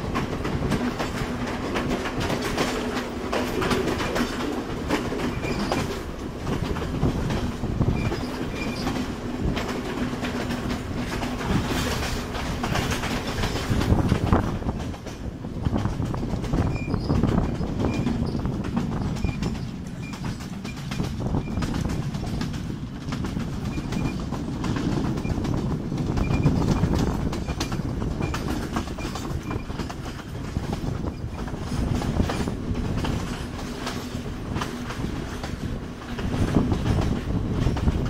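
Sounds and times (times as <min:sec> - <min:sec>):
train wheels clattering over rail joints: 0:00.0 - 0:38.0.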